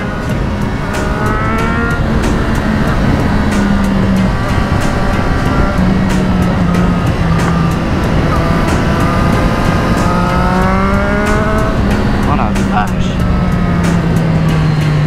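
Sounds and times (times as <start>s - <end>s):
motorcycle engine revving: 0.0s - 15.0s
wind noise on microphone: 0.0s - 15.0s.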